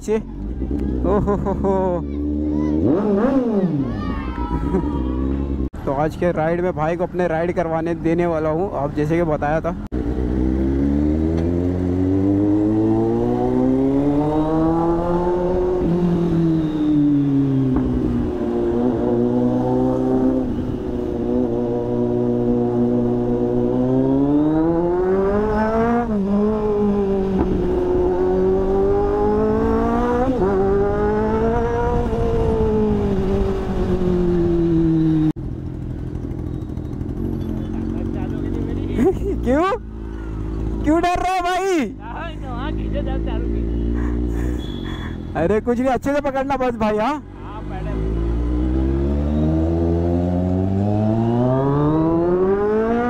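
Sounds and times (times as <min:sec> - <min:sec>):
motorcycle engine revving: 0:00.0 - 0:05.9, 0:09.0 - 0:41.0, 0:41.8 - 0:53.0.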